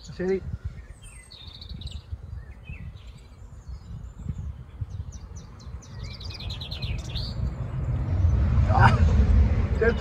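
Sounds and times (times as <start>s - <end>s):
small birds chirping: 0.0s - 8.8s
steady low rumble: 1.7s - 10.0s.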